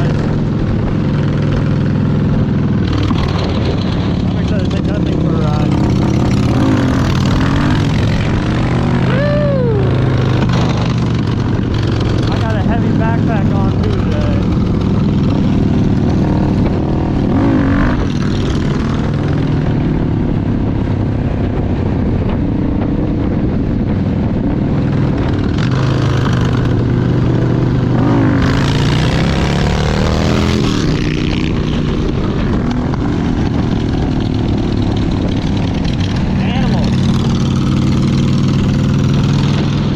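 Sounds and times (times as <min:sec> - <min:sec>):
motorcycle engine revving: 0:00.0 - 0:39.9
rushing wind noise: 0:00.0 - 0:39.9.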